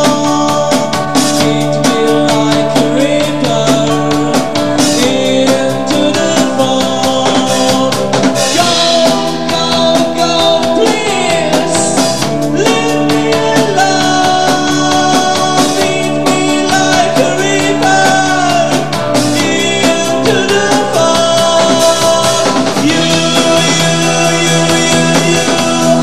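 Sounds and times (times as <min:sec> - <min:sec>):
drum beat: 0:00.0 - 0:26.0
live rock band playing: 0:00.0 - 0:26.0
man singing: 0:00.0 - 0:26.0.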